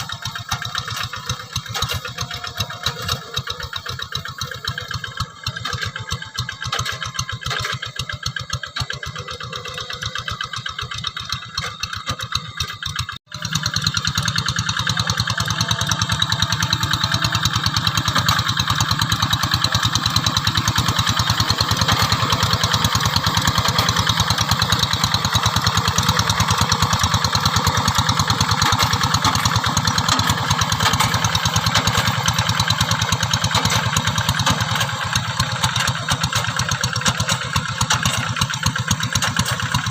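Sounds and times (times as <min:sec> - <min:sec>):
diesel hand tractor engine running: 0:00.0 - 0:39.9.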